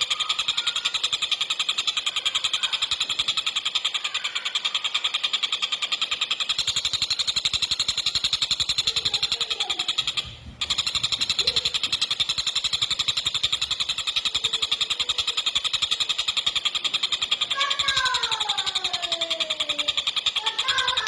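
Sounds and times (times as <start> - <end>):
kingfisher chattering: 0.0 - 21.0.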